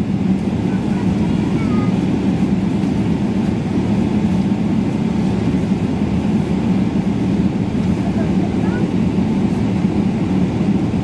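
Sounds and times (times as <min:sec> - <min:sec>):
airplane cabin rumble and hum: 0:00.0 - 0:11.0.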